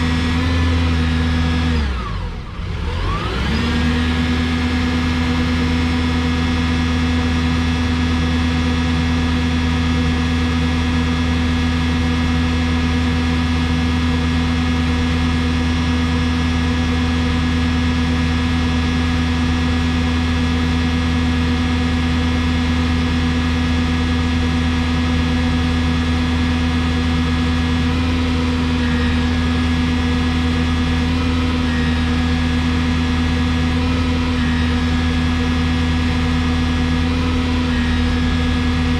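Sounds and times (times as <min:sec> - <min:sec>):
diesel forklift engine running: 0:00.0 - 0:38.9.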